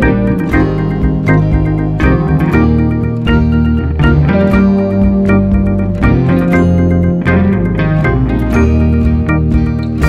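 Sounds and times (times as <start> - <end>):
instrumental music with plucked notes: 0.0 - 10.0.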